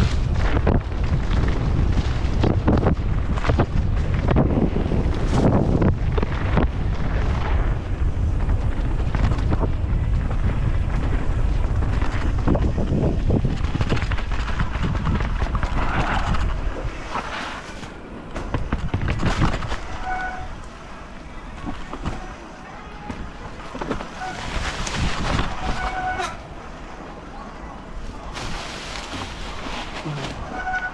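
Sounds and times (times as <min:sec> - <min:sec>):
bike rattling over rough ground: 0:00.0 - 0:30.9
wind buffeting microphone: 0:00.0 - 0:30.9.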